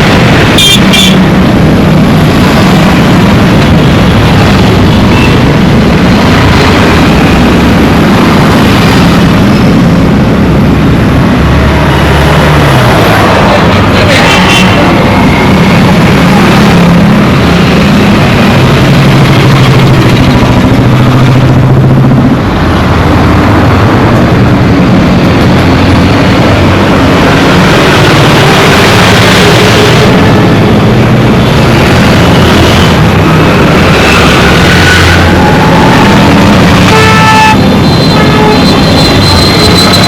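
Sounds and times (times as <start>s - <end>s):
traffic noise: 0.0s - 40.0s
vehicle engines running: 0.0s - 40.0s.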